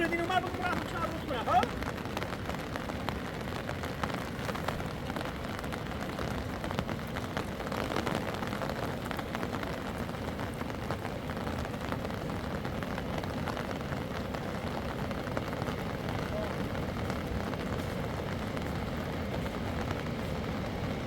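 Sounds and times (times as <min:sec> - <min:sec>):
rain falling: 0:00.0 - 0:21.0
raindrops ticking on a surface: 0:00.0 - 0:21.0.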